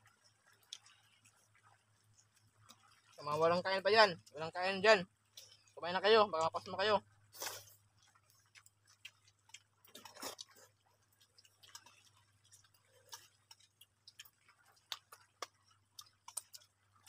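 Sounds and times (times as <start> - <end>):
people eating with hands: 0.0 - 17.0.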